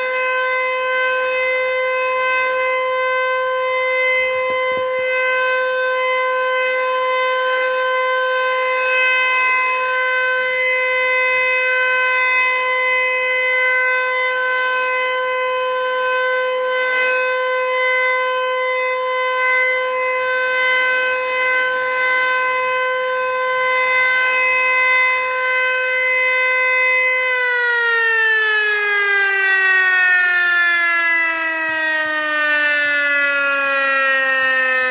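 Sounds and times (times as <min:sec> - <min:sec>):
tornado warning siren: 0:00.0 - 0:34.9.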